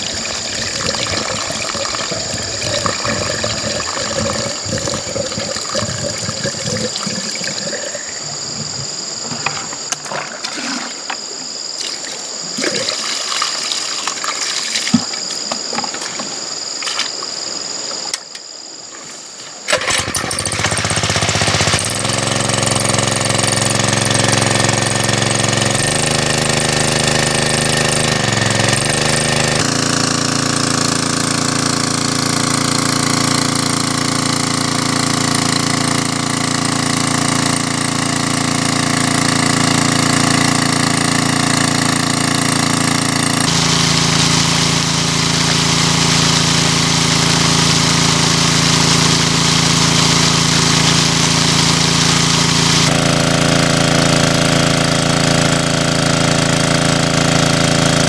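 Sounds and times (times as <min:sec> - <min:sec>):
water pump engine running: 0:00.0 - 0:10.7, 0:19.7 - 0:58.0
water splashing from bucket: 0:00.0 - 0:17.3, 0:19.7 - 0:58.0.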